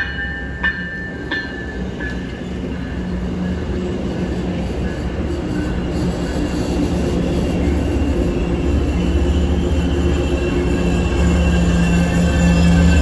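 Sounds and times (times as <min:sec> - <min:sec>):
diesel locomotive engine drone: 0:00.0 - 0:13.0
train rumble: 0:00.0 - 0:13.0.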